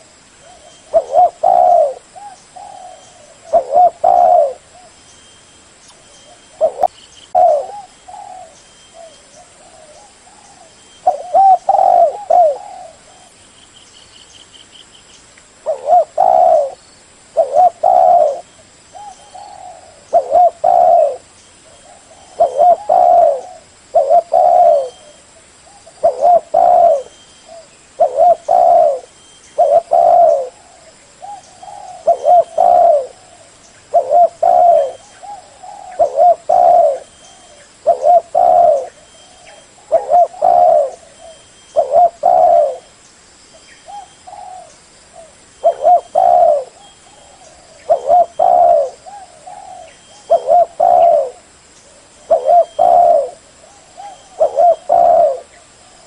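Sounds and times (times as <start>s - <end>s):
dove cooing: 0.0s - 5.0s, 6.2s - 13.4s, 15.6s - 42.9s, 43.8s - 56.0s.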